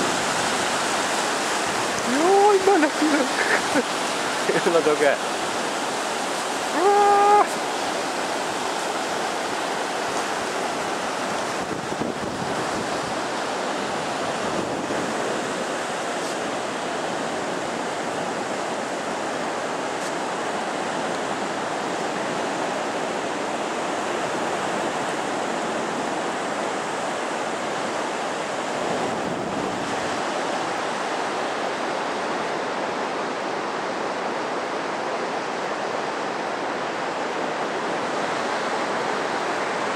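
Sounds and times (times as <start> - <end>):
ocean surf washing on beach: 0.0 - 39.9.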